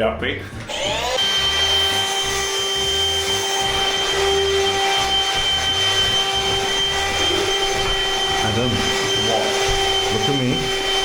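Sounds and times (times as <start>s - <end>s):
power tool motor whining: 0.6s - 11.0s.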